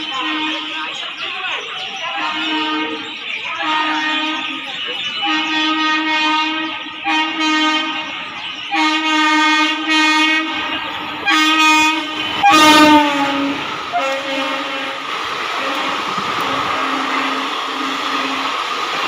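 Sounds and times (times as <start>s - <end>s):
locomotive horn blasts: 0.0s - 0.9s, 2.2s - 4.6s, 5.2s - 18.5s.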